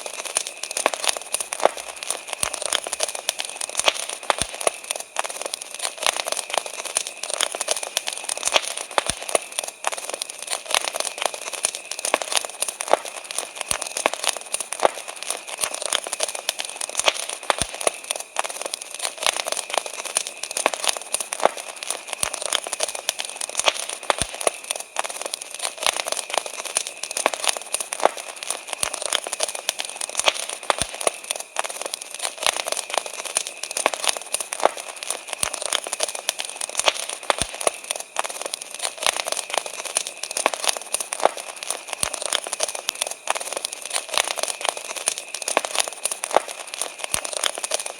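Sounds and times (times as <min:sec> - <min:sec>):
campfire crackling: 0:00.0 - 0:47.9.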